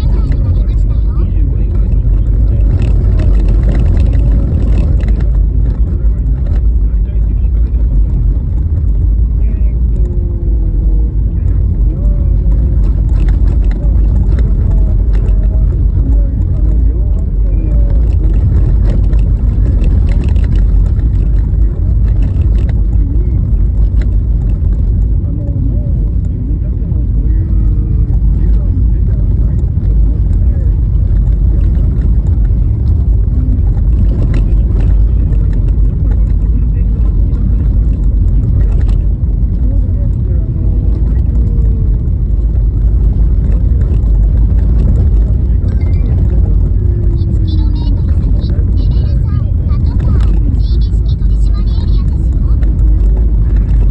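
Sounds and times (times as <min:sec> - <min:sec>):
car knocking and rattling: 0:00.0 - 0:53.9
car tyres rumbling on road: 0:00.0 - 0:53.9.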